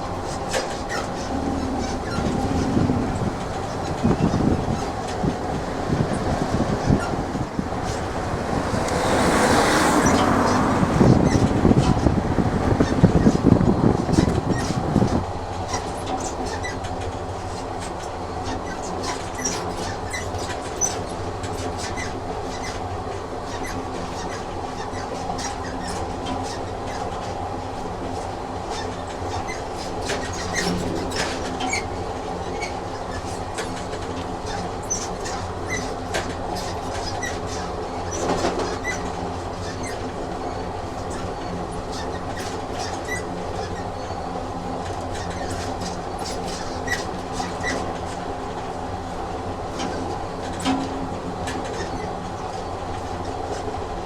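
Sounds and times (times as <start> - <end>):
train rumbling: 0.0 - 54.0
train wheels clicking and knocking: 0.0 - 54.0.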